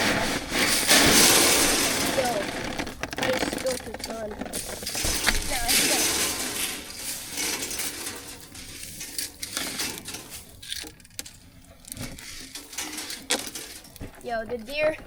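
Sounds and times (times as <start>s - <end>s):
corn kernels pattering: 0.0s - 15.0s.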